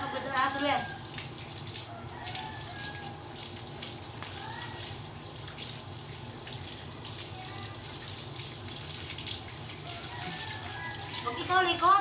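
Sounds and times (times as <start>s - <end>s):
hose water splashing on tiles: 0.0s - 12.0s.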